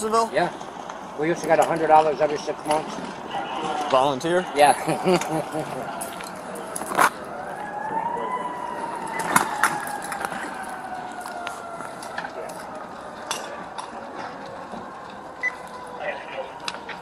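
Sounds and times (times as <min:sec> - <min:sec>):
emergency vehicle siren: 0:00.0 - 0:17.0.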